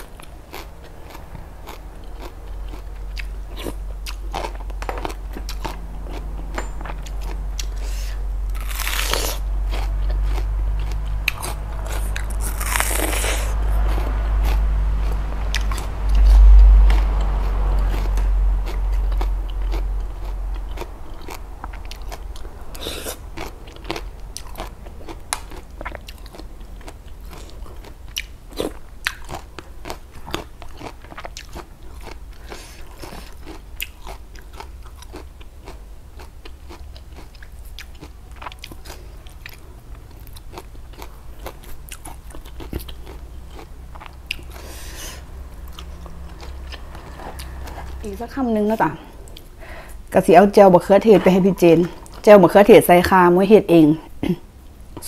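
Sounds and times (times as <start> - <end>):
crunchy chewing: 0.0 - 48.1.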